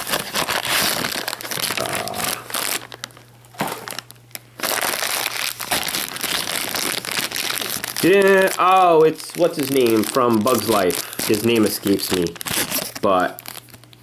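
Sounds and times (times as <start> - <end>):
foil bag crinkling and tearing: 0.0 - 14.0.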